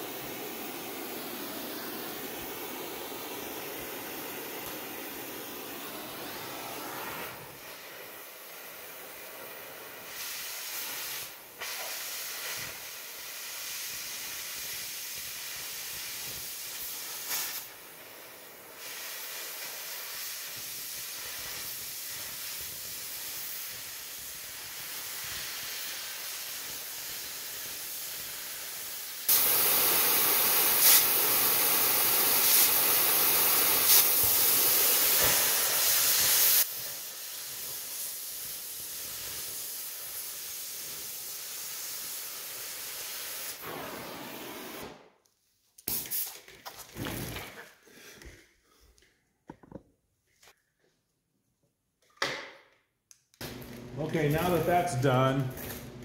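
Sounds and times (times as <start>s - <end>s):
cutting torch hissing: 0.0s - 45.0s, 54.0s - 55.8s.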